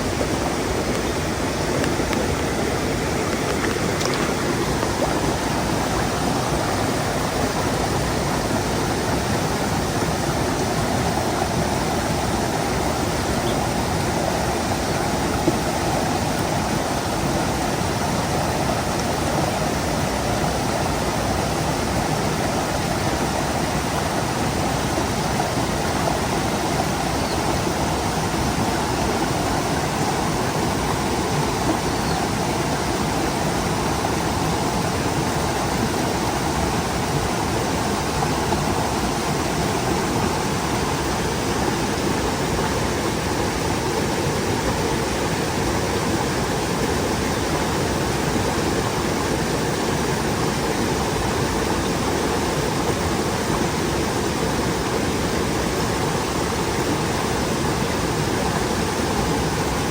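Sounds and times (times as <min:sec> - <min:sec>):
stream splashing over rocks: 0:00.0 - 0:59.9.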